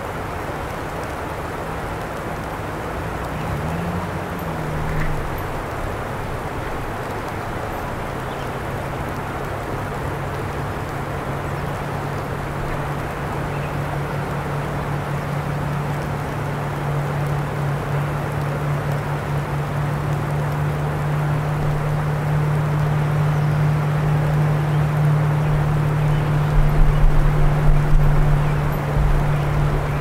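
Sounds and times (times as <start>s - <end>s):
even outdoor hiss: 0.0s - 30.0s.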